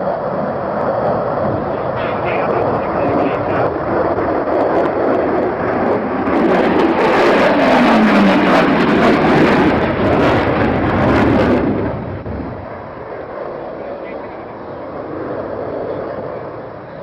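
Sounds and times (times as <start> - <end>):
aircraft engine rushing past: 0.0 - 17.0.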